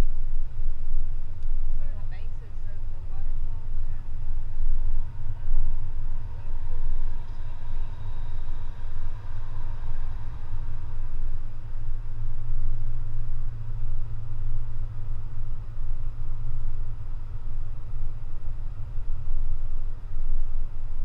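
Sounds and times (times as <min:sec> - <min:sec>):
car driving on paved road: 0:00.0 - 0:21.0.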